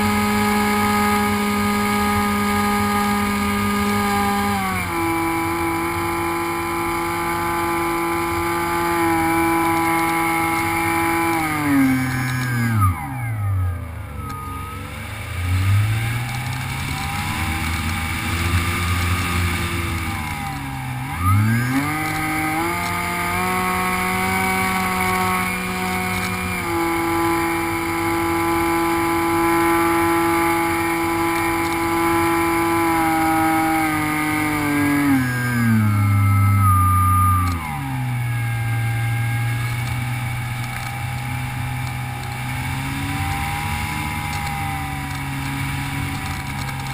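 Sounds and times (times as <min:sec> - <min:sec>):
rc plane motor whining: 0:00.0 - 0:46.9.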